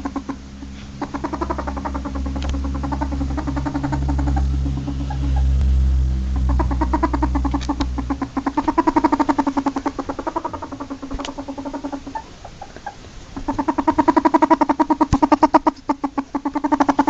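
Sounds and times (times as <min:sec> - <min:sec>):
ferret dooking: 0:00.0 - 0:17.0
low steady hum: 0:00.0 - 0:17.0.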